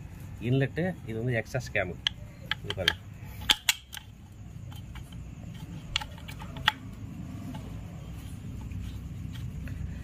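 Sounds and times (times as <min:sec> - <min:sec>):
steady low hum: 0:00.0 - 0:10.0
metal engine parts clicking: 0:01.6 - 0:09.8.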